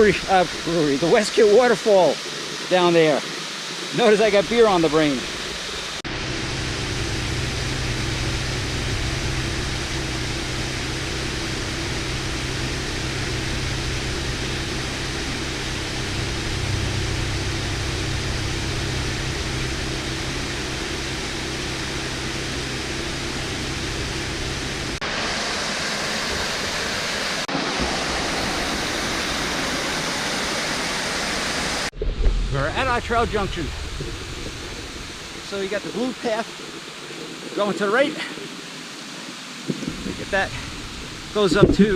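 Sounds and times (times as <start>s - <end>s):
waterfall rushing: 0.0s - 31.9s, 32.6s - 41.9s.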